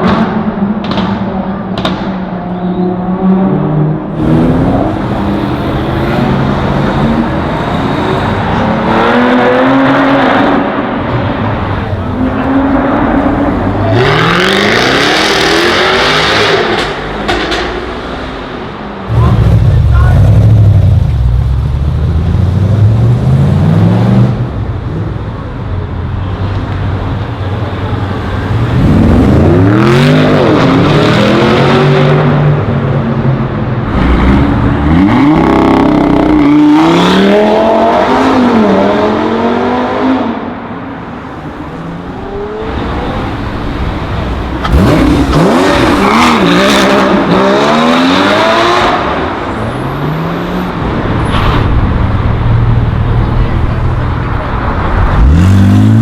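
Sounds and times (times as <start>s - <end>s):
cars accelerating hard: 0.0s - 25.2s, 28.0s - 56.0s.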